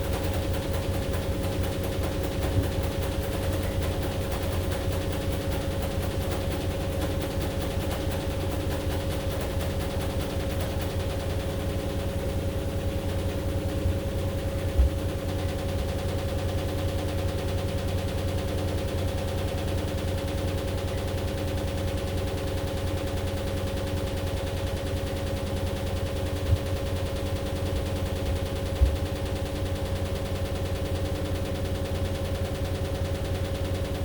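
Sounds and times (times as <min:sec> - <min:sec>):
washing machine running: 0:00.0 - 0:34.0.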